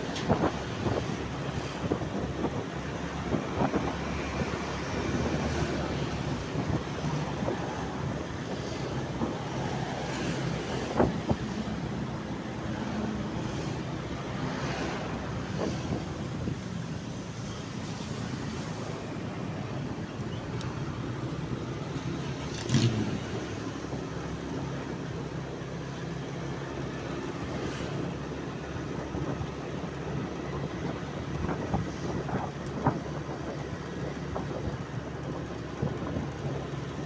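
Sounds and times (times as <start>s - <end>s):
wind buffeting the microphone: 0.0s - 37.0s.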